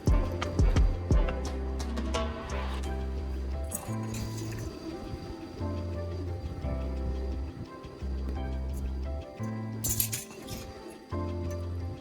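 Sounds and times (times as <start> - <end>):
background music with bass notes: 0.0 - 12.0.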